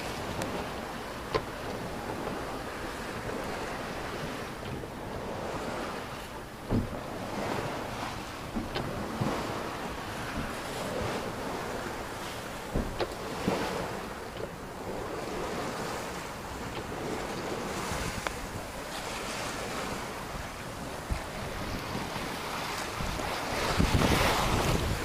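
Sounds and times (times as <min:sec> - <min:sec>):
water splashing along boat hull: 0:00.0 - 0:25.0
wind buffeting microphone: 0:00.0 - 0:25.0.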